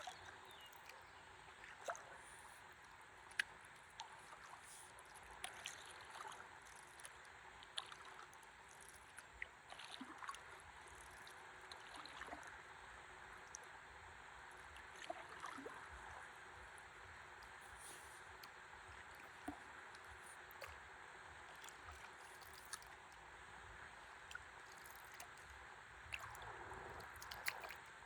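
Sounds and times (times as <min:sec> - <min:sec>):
small water drips: 0:00.0 - 0:28.0
water trickling and lapping: 0:00.0 - 0:28.0.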